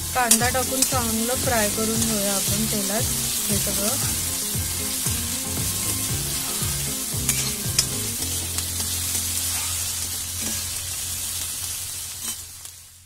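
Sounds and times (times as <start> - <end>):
vegetables sizzling in hot oil: 0.0 - 13.0
metal spatula scraping pan: 0.1 - 11.3, 12.1 - 12.6.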